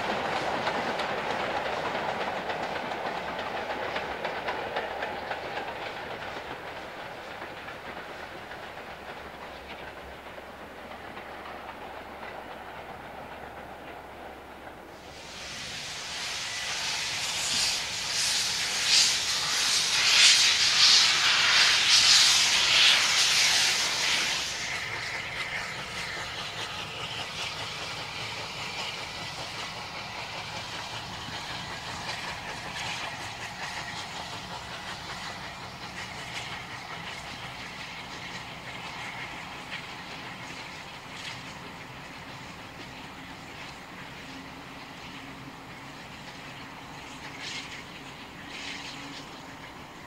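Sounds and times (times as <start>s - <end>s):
loud hiss of steam: 0.0s - 13.3s, 14.3s - 50.0s
steam locomotive and coaches passing: 0.0s - 50.0s.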